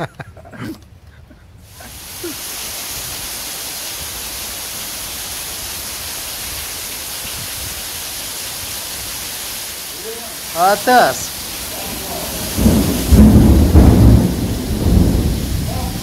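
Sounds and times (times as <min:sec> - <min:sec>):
heavy rain downpour: 0:01.5 - 0:16.0
water splashing onto paving: 0:01.7 - 0:16.0.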